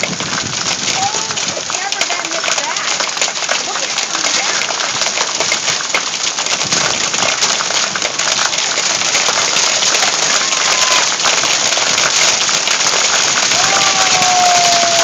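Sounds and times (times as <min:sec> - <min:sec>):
hail and rain clattering: 0:00.0 - 0:15.0.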